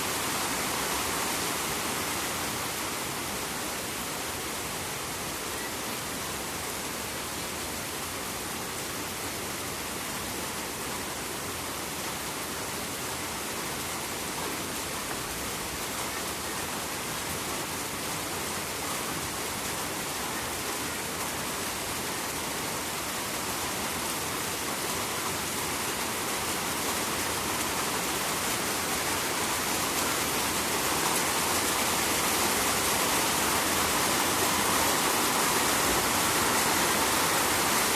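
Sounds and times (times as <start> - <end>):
running river water: 0.0 - 37.9
steady rain falling: 0.0 - 37.9.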